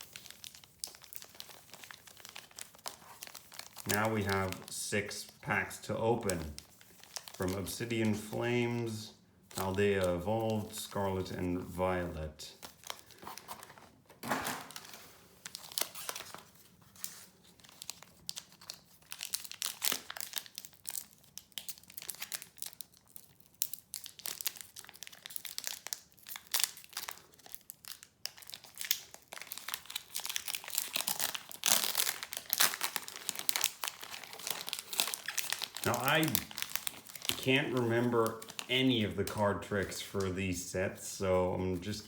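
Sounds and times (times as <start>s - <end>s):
foil wrappers crinkling: 0.0s - 14.0s, 14.6s - 40.4s.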